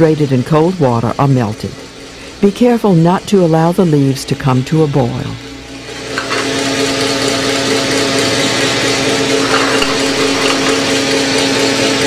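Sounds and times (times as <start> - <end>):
gas burner hissing: 0.0 - 12.0
steady machine hum: 0.0 - 12.0.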